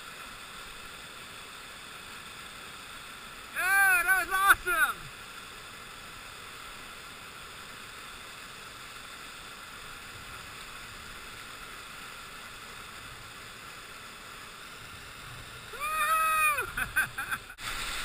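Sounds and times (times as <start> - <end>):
river whitewater rushing: 0.0 - 18.0.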